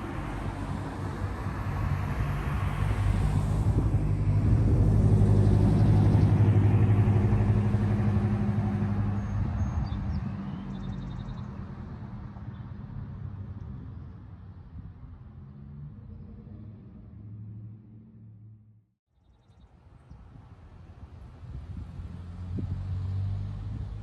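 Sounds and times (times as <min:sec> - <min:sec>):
vehicle passing by: 0:00.0 - 0:14.0, 0:14.8 - 0:18.8, 0:21.4 - 0:24.0.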